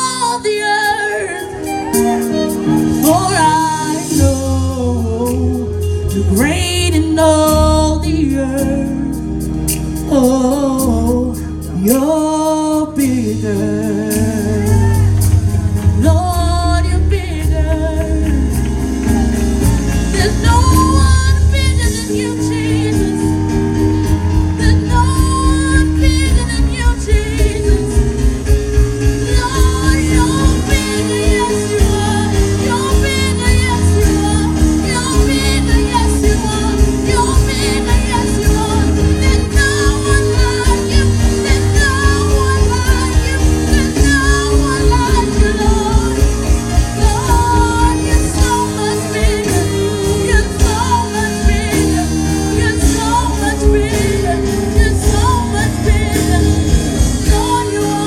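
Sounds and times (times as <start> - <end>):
gospel band with keyboard and bass: 0.0 - 58.0
woman singing: 0.0 - 58.0.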